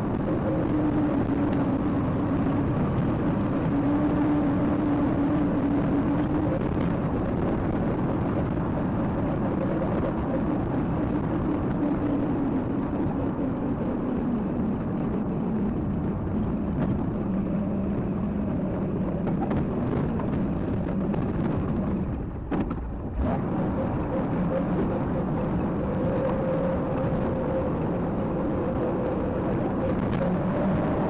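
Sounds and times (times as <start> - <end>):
large vehicle engine droning: 0.0 - 31.0.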